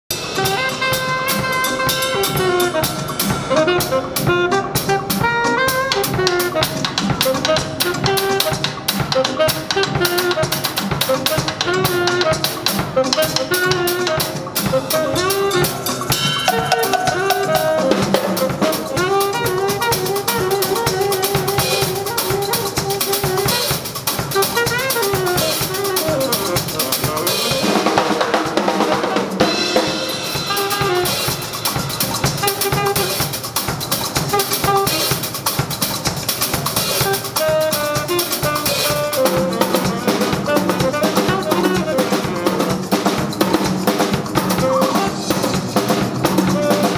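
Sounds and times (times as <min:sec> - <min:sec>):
drum kit playing: 0:00.1 - 0:46.9
jazz saxophone melody: 0:00.1 - 0:46.9.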